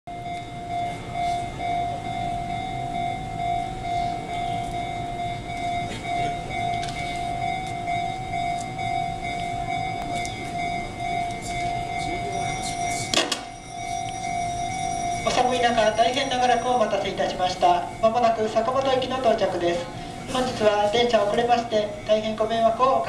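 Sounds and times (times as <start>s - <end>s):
level crossing warning bell: 0.1s - 23.0s.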